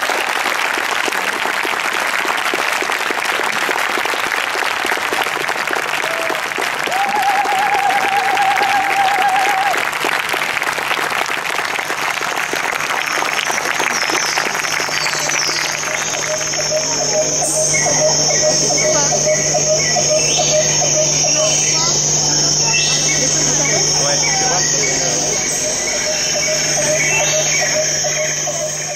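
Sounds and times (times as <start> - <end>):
audience applauding: 0.0 - 28.9.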